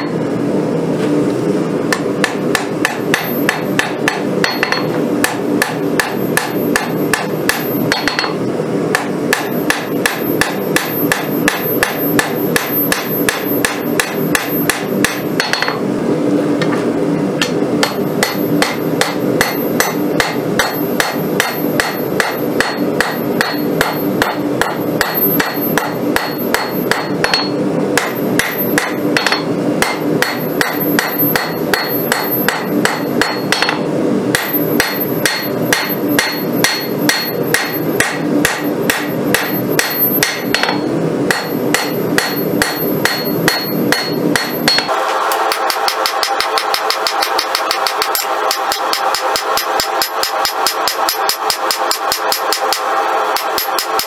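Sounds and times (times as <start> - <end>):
hammer striking hot metal on anvil: 1.9 - 15.8, 17.4 - 54.0.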